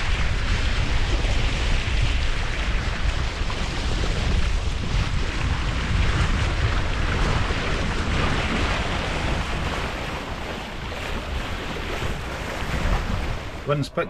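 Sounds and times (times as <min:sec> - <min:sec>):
water rushing along a hull: 0:00.0 - 0:14.0
wind buffeting microphone: 0:00.0 - 0:14.0.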